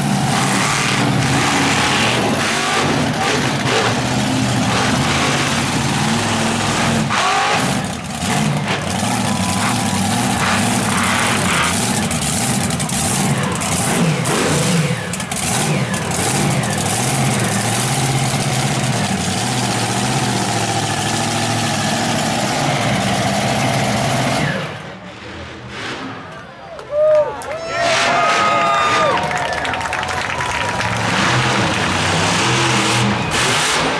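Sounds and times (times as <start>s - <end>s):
truck engine revving: 0.0s - 26.3s, 28.9s - 33.9s.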